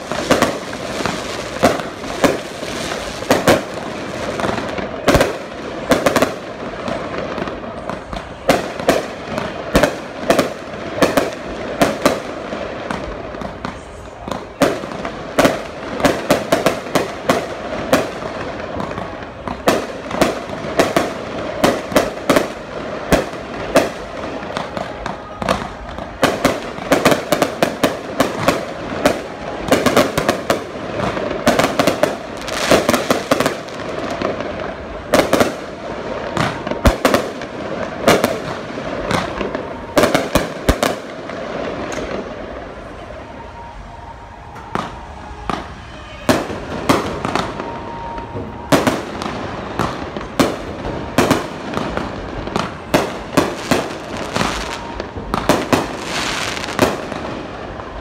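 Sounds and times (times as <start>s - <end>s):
fireworks bursting: 0.0s - 58.0s
fireworks crackling: 0.0s - 58.0s.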